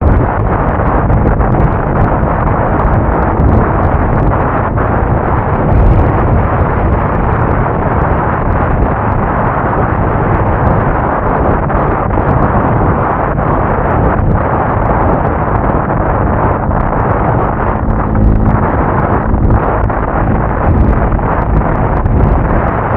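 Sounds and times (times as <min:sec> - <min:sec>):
motorcycle engine running: 0:00.0 - 0:22.9
wind rushing on microphone: 0:00.0 - 0:22.9.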